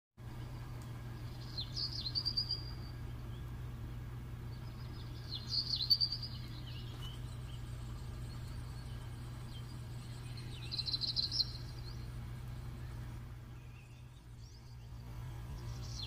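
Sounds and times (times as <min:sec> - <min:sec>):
steady low hum: 0:00.2 - 0:16.0
small bird chirping: 0:00.4 - 0:16.0.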